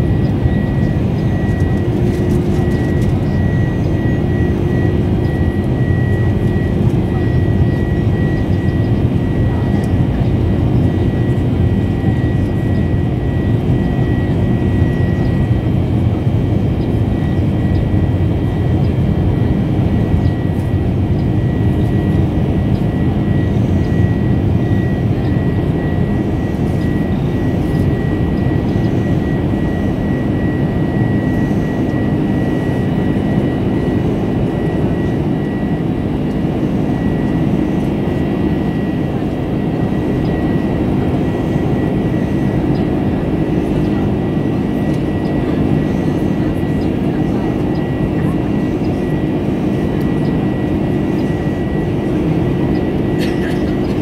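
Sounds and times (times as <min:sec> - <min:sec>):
high jet engine whine: 0:00.0 - 0:54.0
jet engine roar in cabin: 0:00.0 - 0:54.0.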